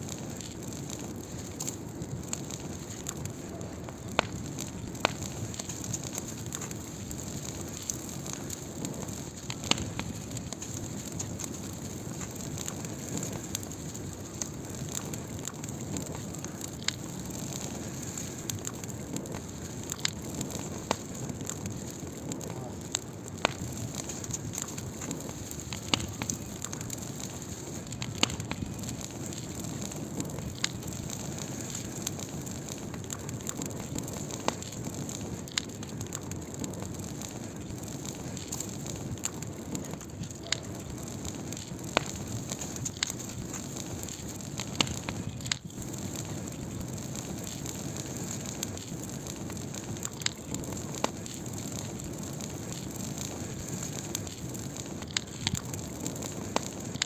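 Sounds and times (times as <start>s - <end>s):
fire crackles and pops: 0.0s - 57.0s
wood fire rushing flame: 0.0s - 57.0s.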